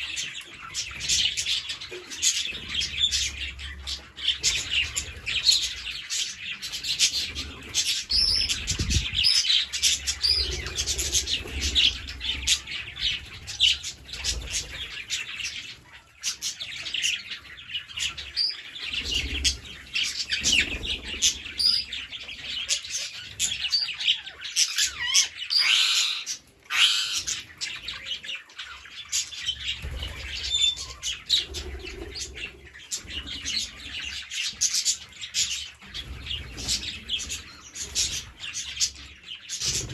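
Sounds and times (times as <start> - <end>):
parrots chattering: 0.0 - 35.8.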